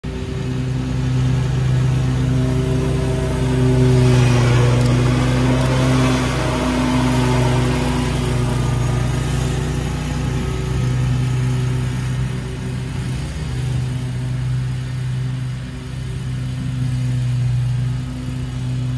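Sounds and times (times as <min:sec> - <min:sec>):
lawn mower engine and blades: 0:00.0 - 0:18.9.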